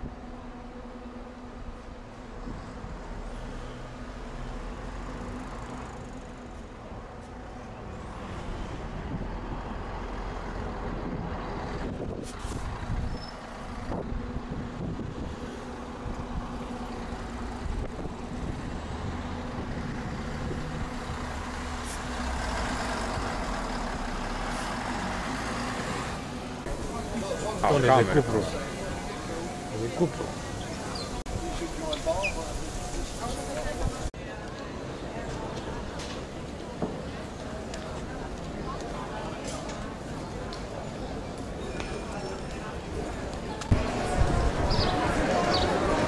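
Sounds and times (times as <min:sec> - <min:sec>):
bus passing: 0:00.0 - 0:46.0
traffic engines passing: 0:00.0 - 0:46.0.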